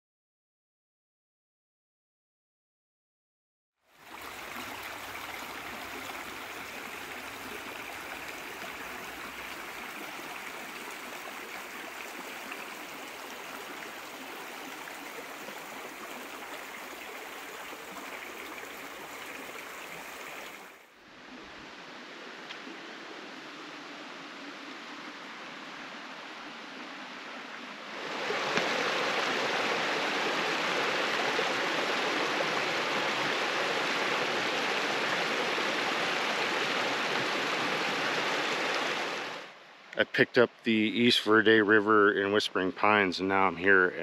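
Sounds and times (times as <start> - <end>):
river water babbling over rocks: 3.9 - 40.0.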